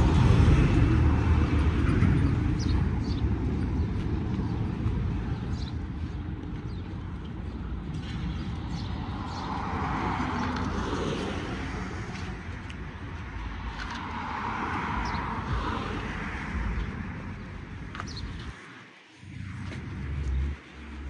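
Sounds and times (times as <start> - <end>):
steady low rumble: 0.0 - 21.0
vehicles passing by: 0.0 - 21.0.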